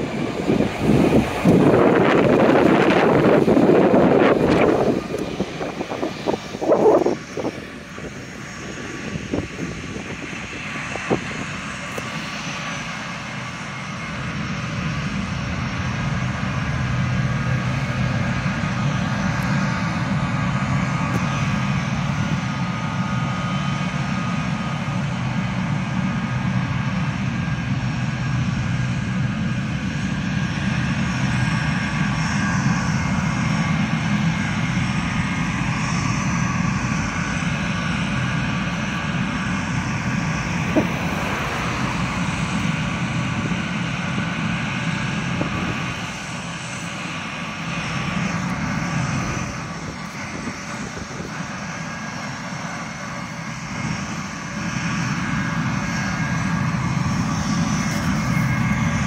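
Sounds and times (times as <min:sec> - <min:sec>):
high jet whine: 0:00.0 - 0:59.0
jet engines rumbling: 0:00.0 - 0:59.0.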